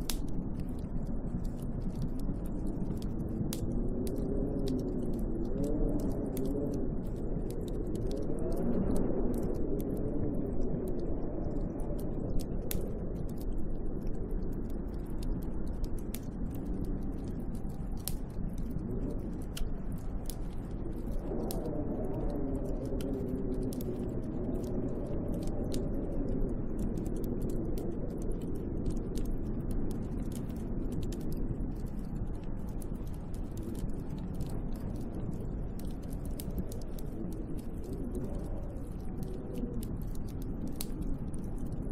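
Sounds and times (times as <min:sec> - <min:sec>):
wind howling: 0:00.0 - 0:41.9.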